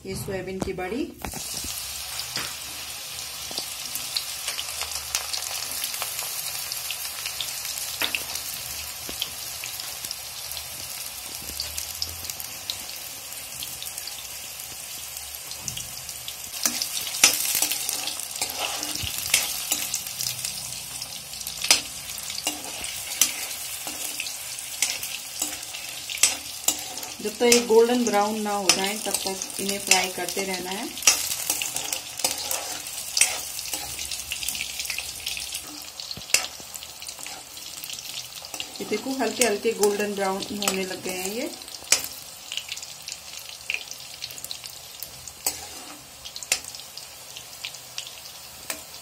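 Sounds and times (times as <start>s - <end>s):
frying sizzle with crackles: 0.0s - 49.0s.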